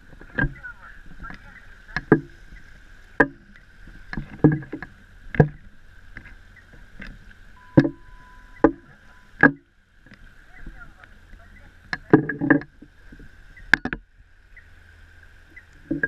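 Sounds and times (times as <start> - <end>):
small waves slapping: 0.0 - 16.0
steady wash of water: 0.0 - 16.0.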